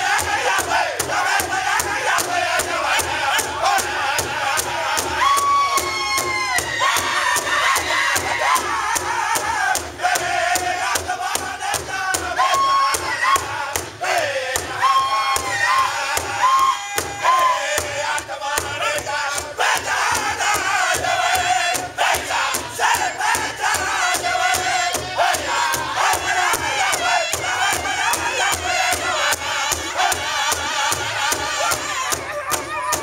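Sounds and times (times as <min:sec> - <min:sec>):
group singing in high voices: 0:00.0 - 0:33.0
large hide drum beating: 0:00.0 - 0:33.0.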